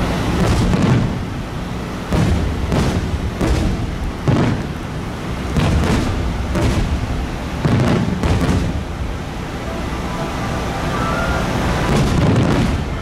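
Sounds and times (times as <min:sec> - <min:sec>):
fireworks shells booming: 0:00.0 - 0:09.4, 0:11.8 - 0:13.0.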